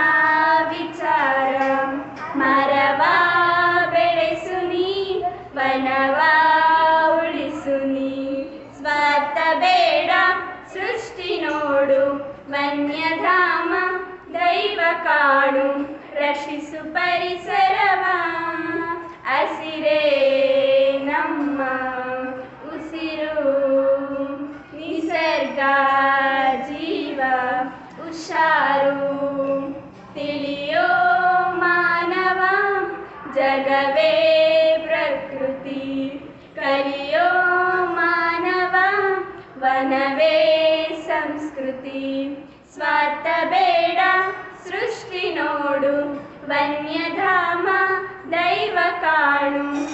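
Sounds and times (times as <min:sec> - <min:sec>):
girls singing together: 0:00.0 - 0:49.9.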